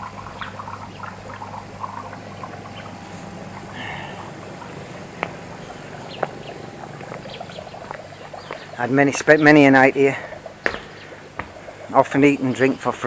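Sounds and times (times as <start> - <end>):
steady low hum: 0.0 - 13.0
water trickling in pond: 0.0 - 13.0.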